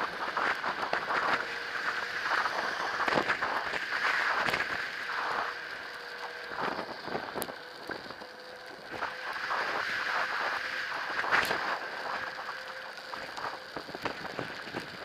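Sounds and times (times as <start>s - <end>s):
bike tyres on snowy road: 0.0s - 15.0s
faint steady whine: 0.0s - 15.0s.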